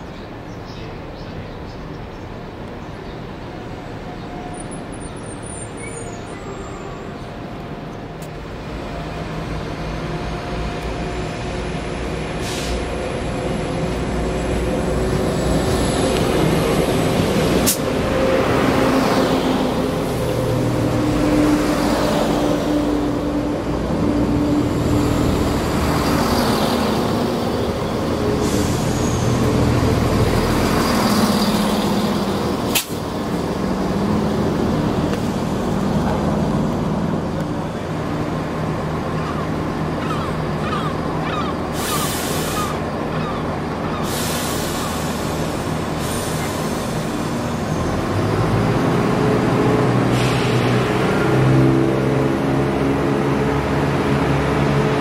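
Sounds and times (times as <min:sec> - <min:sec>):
diesel train engine hum: 0:00.0 - 0:55.0
train wheels rumbling: 0:06.2 - 0:55.0.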